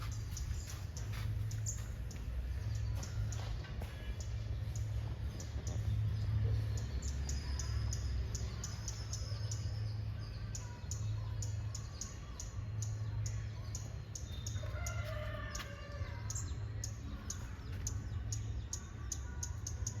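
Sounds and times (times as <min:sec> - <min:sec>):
birds ticking calls: 0:00.0 - 0:20.0
steady low hum: 0:00.0 - 0:20.0.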